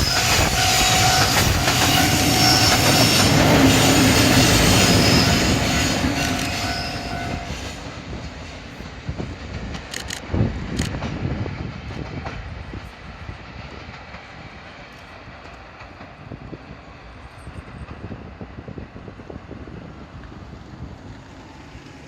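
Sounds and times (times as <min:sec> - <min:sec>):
train wheels clacking on rails: 0:00.0 - 0:19.2.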